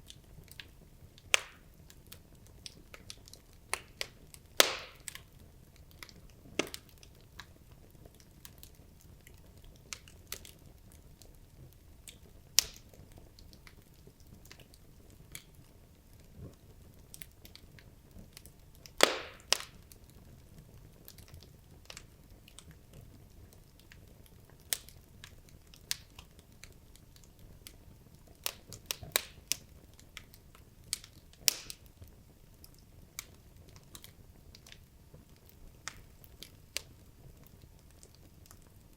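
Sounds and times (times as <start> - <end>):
logs crackling and popping: 0.0 - 38.9
low steady fire noise: 0.0 - 38.9.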